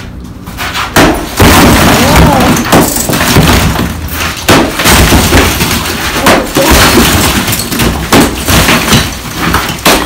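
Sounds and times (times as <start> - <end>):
sledgehammer blows on brick: 0.6 - 10.0
bricks breaking and tumbling: 0.8 - 10.0.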